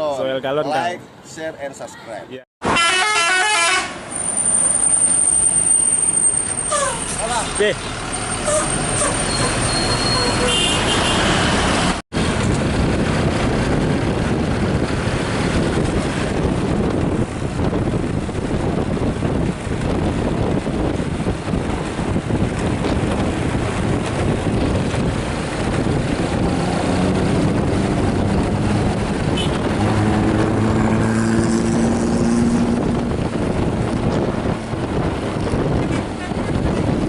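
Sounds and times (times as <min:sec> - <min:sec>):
engine and traffic rumble: 0:00.0 - 0:37.0.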